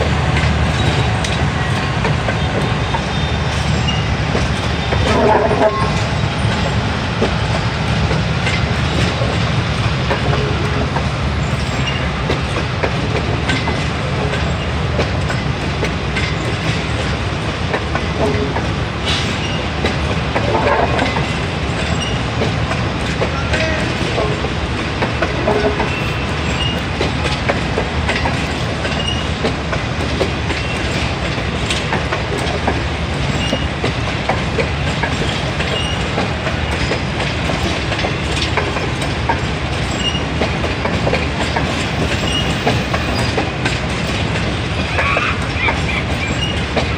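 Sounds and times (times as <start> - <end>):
passenger train passing: 0.0 - 46.9.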